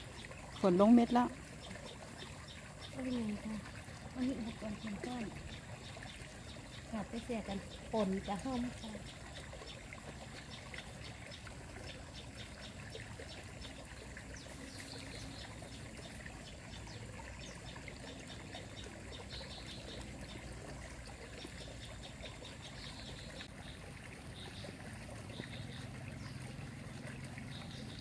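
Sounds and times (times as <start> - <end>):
light rain pattering on pond: 0.0 - 28.0.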